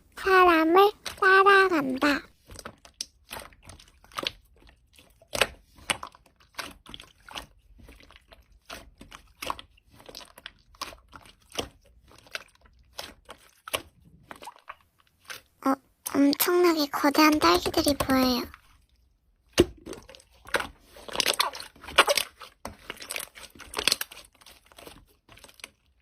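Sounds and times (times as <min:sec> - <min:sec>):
slime squished by hand: 0:02.4 - 0:15.5, 0:17.1 - 0:26.0.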